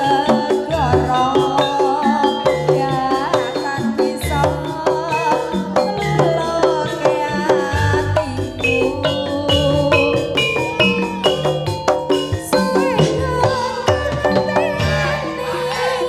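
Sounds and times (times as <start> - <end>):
hand drums beating: 0.0 - 16.0
metallophones ringing: 0.0 - 16.0
wavering melody line: 0.0 - 16.0.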